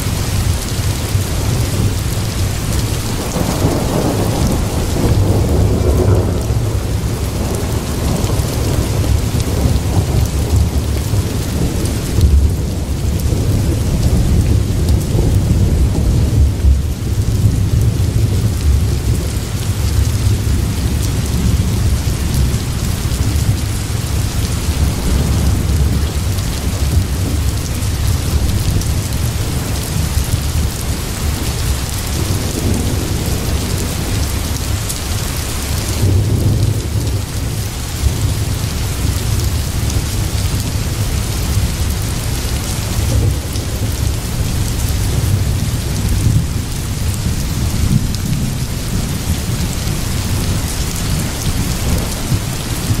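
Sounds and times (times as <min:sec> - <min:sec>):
low rumble of thunder: 0:00.0 - 0:53.0
steady rain: 0:00.0 - 0:53.0.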